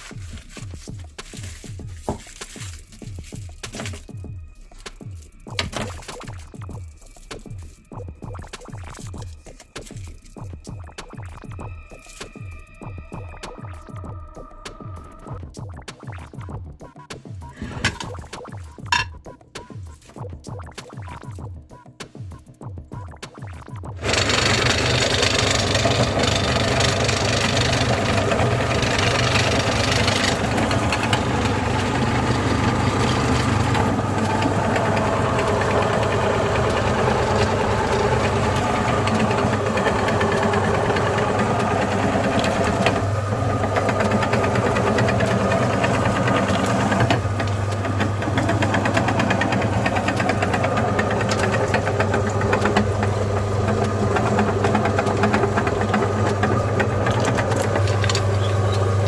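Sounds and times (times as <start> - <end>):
meat grinder motor grinding candy: 0.0 - 15.6, 23.9 - 59.0.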